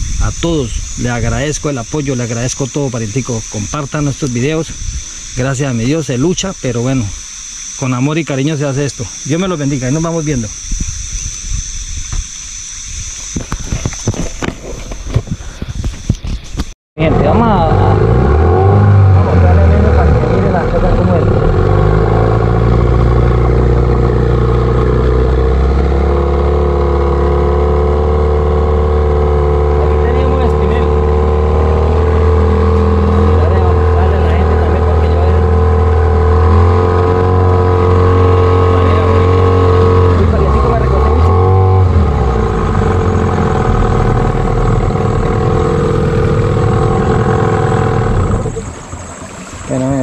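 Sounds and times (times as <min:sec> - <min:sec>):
outboard motor running: 0:00.0 - 0:12.4, 0:13.2 - 0:50.0.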